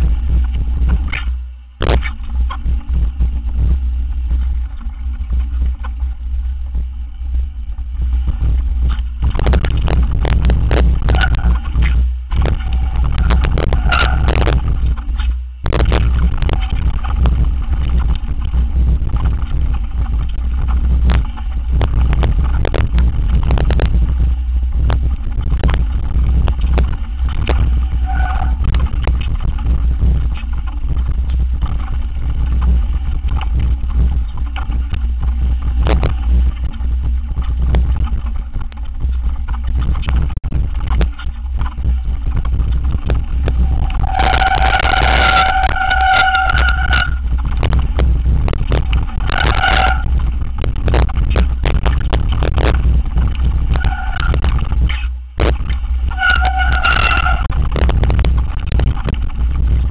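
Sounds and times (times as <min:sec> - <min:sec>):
mountain bike rattling on trail: 0:00.0 - 0:59.9
wind rumbling on microphone: 0:00.0 - 0:59.9.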